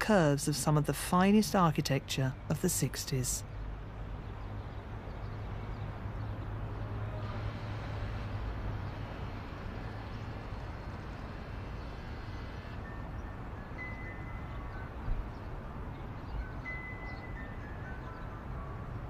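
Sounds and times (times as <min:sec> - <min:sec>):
distant traffic: 0:00.0 - 0:19.0.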